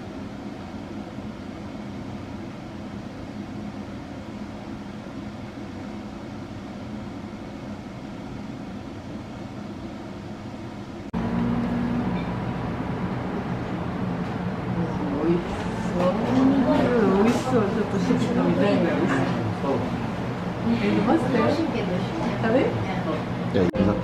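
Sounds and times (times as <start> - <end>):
faint hum: 0.0 - 24.0
loud steady hum: 0.0 - 24.0
low ambient rumble and hiss: 0.0 - 24.0.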